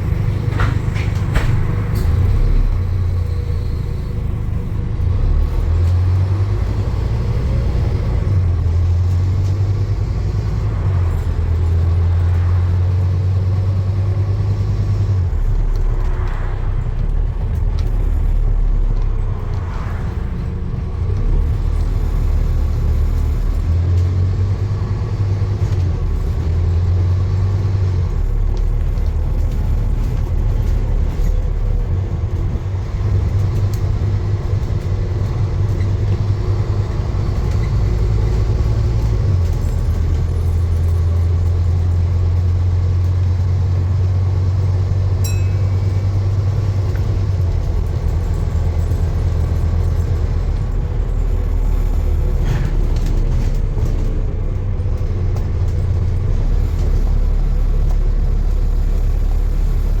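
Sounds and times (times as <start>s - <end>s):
vehicle engine rumbling: 0.0s - 60.0s.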